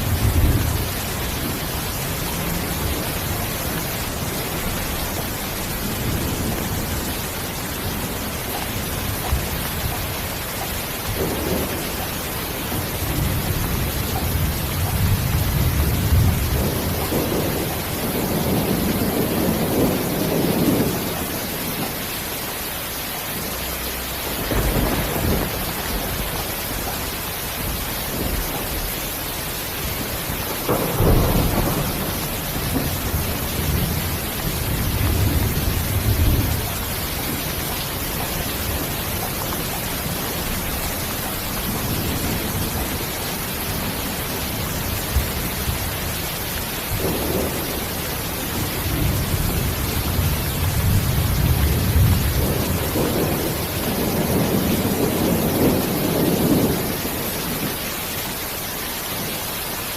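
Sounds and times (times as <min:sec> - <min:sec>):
thunder rolling: 0:00.0 - 0:22.0, 0:23.7 - 0:57.8
rain hissing: 0:00.0 - 0:59.9.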